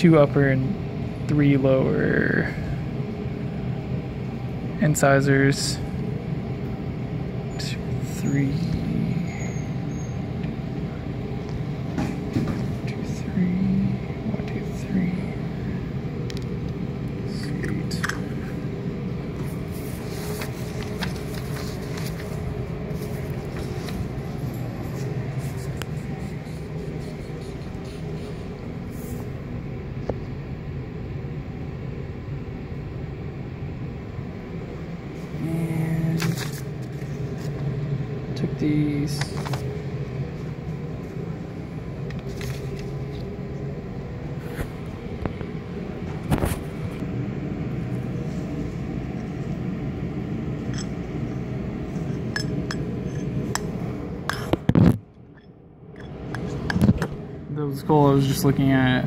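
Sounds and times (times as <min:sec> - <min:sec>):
low background hum: 0:00.0 - 0:59.0
low room rumble: 0:00.0 - 0:59.0.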